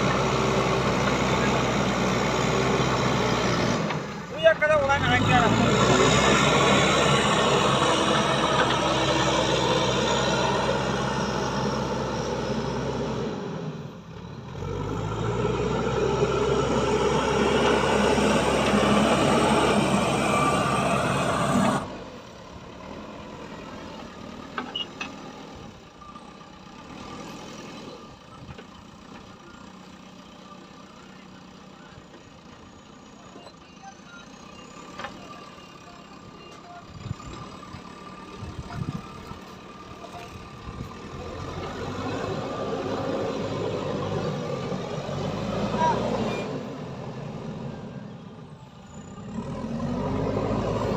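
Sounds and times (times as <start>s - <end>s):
heavy vehicle engine running: 0.0s - 50.9s.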